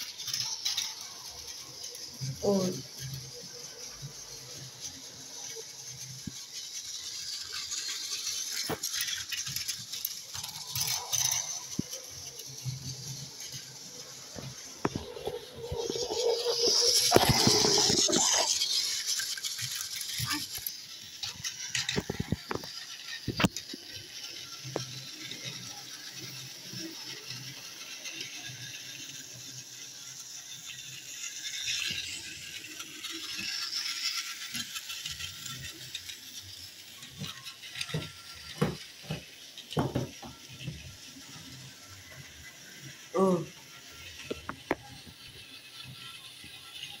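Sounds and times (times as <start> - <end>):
toy train motor whirring: 0.0 - 47.0
toy train wheels rattling: 0.0 - 47.0.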